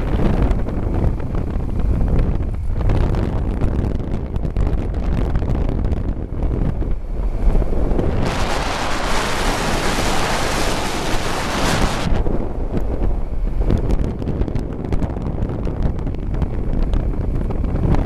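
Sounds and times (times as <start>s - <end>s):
motorcycle engine rumble: 0.0s - 18.0s
wind rushing over microphone: 0.0s - 18.0s.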